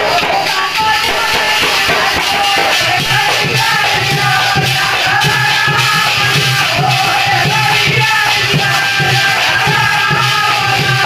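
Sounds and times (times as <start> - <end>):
clapper with metal cymbals rattling: 0.0 - 11.0
man singing folk song: 0.0 - 11.0.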